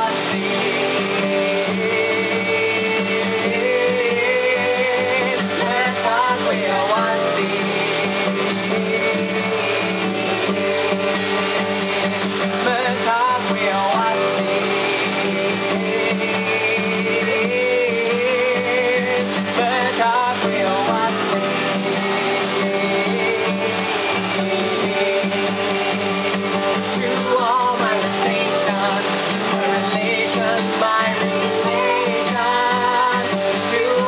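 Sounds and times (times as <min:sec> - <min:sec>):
guitar playing: 0:00.0 - 0:34.0
person singing: 0:00.0 - 0:34.0.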